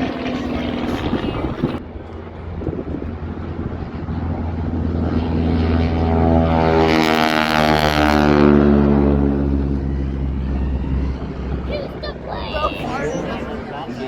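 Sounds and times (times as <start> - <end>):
propeller airplane flying past: 0.0 - 14.0.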